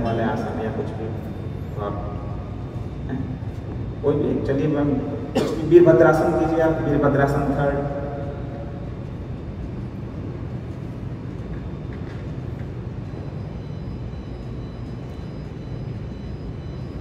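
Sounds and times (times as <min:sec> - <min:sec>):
indoor mall low hum: 0:00.0 - 0:17.0.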